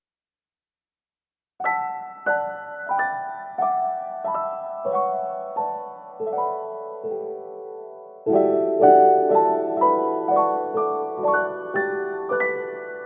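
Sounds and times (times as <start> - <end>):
piano music: 1.6 - 13.0.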